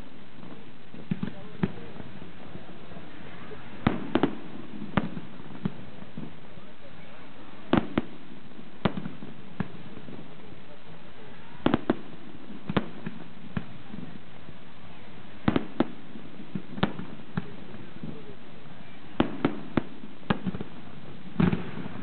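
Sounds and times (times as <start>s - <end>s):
steady background noise: 0.0s - 22.0s
firework shells bursting: 0.3s - 6.6s, 7.6s - 10.6s, 11.2s - 14.2s, 15.3s - 22.0s.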